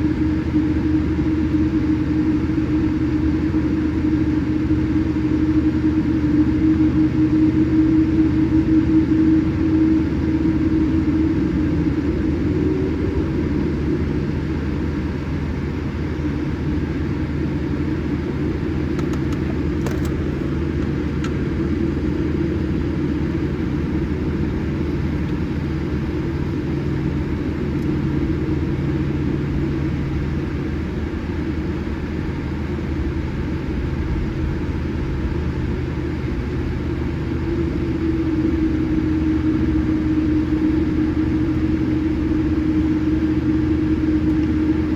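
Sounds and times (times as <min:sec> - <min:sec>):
airliner cabin roar: 0:00.0 - 0:44.9.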